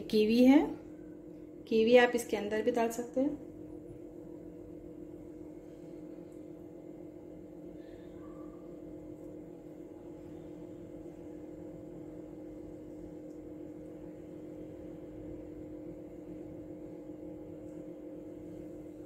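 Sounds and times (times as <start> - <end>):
electrical hum with faint hiss: 0.0 - 19.0.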